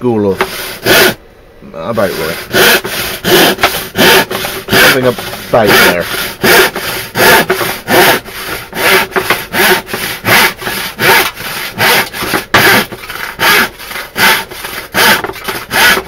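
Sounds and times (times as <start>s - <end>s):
handsaw cutting wood: 0.2s - 1.2s, 2.0s - 16.0s.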